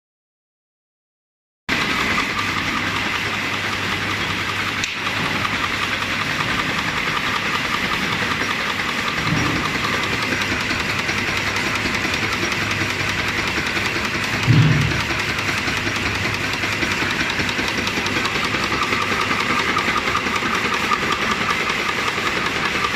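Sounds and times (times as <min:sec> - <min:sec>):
machine mechanical clatter: 0:01.7 - 0:22.9.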